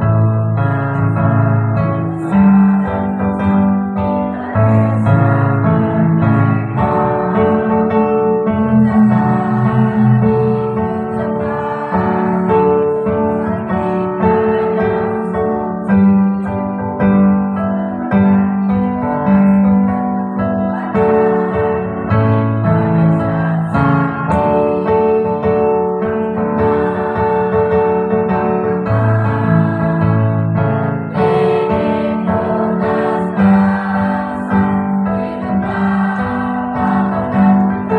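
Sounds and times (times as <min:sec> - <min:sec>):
electric piano chords and melody: 0:00.0 - 0:37.9.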